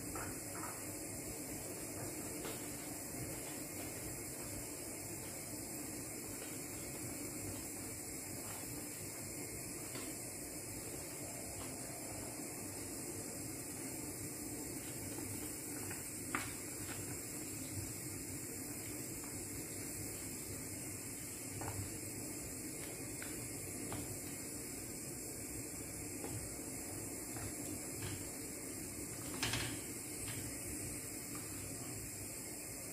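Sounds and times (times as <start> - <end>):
low hiss and hum: 0.0 - 32.9.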